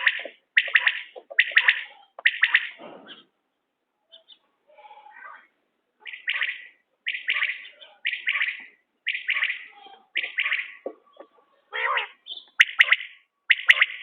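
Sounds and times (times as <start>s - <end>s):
quail calling: 0.0s - 3.3s, 6.0s - 14.0s.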